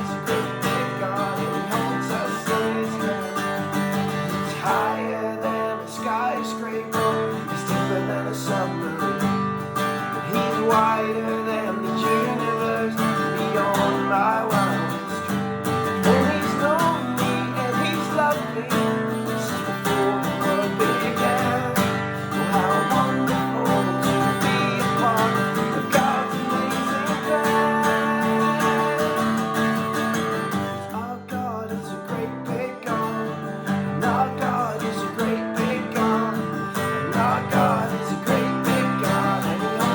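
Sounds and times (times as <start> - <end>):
strummed acoustic guitar music: 0.0 - 39.9.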